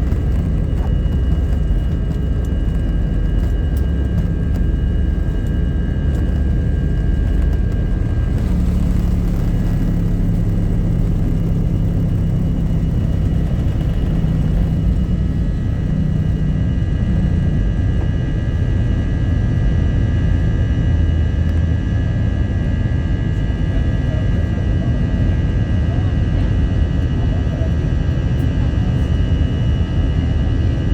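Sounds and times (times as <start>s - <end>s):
jet engines rumbling and whining: 0.0s - 30.9s.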